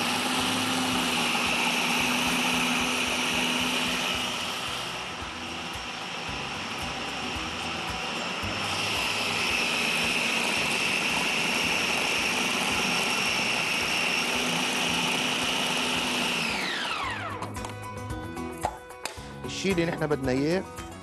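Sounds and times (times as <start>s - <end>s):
food processor whining: 0.0s - 17.8s.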